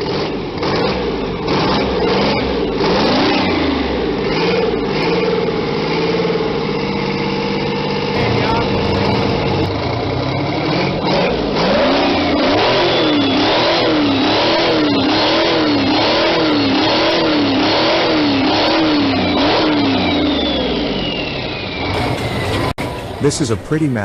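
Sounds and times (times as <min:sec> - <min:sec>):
diesel engine revving: 0:00.0 - 0:23.8.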